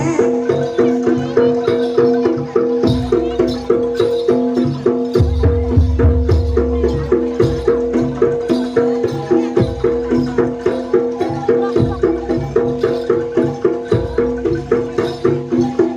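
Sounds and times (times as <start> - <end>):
drums: 0.0 - 15.9
gamelan struck notes: 0.0 - 15.9.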